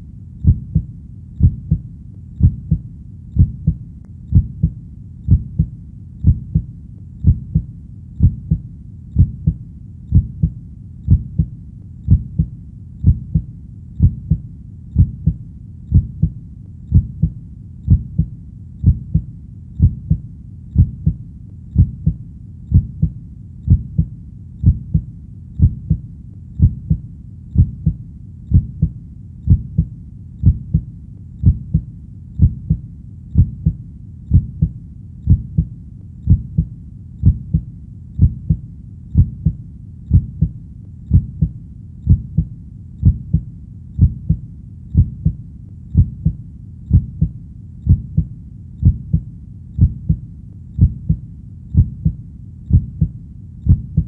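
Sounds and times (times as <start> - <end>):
slow heartbeat thumps: 0.4 - 27.0, 27.6 - 38.6, 39.2 - 54.0.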